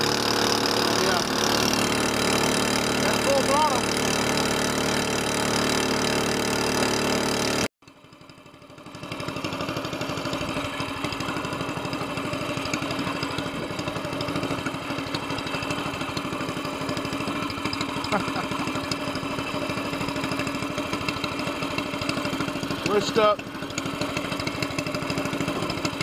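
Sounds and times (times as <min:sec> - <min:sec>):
boat motor running: 0:00.0 - 0:26.0.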